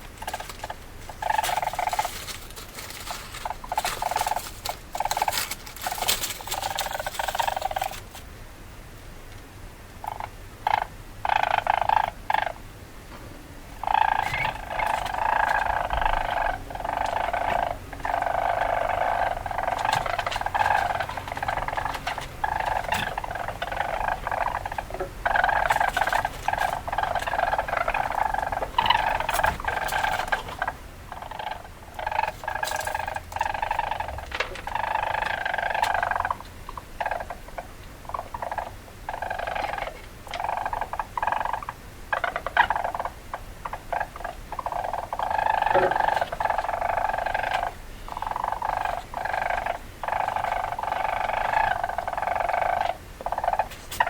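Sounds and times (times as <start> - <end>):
weasel chattering: 0.2 - 8.1, 10.0 - 12.6, 13.8 - 54.0.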